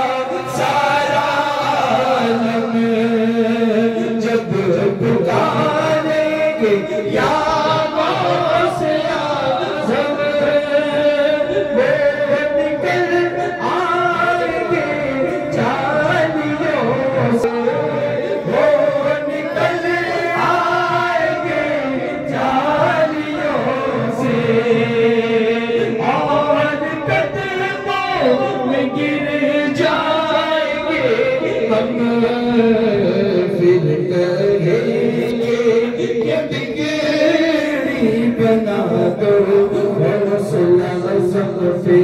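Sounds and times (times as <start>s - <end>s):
men singing into microphones: 0.0s - 42.0s.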